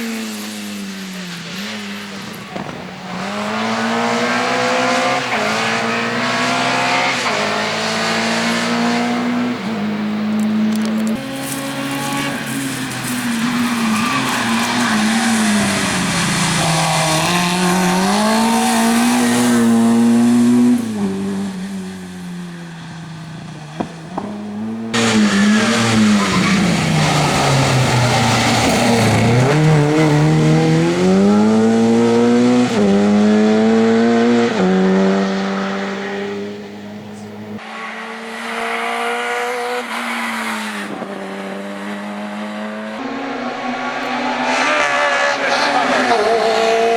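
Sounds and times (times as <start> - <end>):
engine upshifts: 0.0 - 46.9
rally car engine revving: 1.4 - 46.9.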